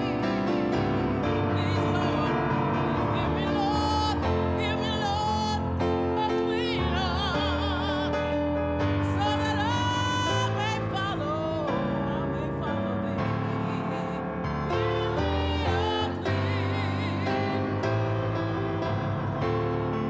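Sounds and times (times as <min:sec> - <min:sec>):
choir singing: 0:00.0 - 0:20.0
keyboard chords: 0:00.0 - 0:20.0.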